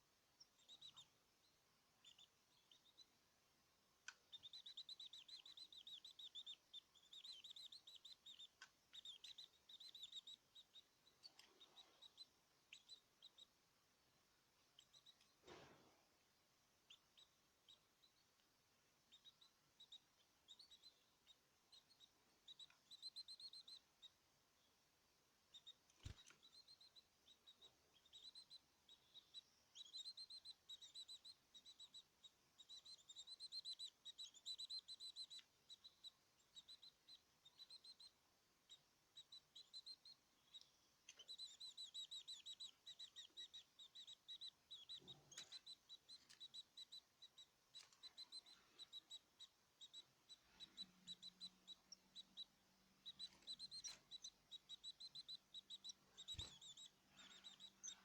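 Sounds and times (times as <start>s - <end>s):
small birds chirping and twittering: 0.0s - 58.0s.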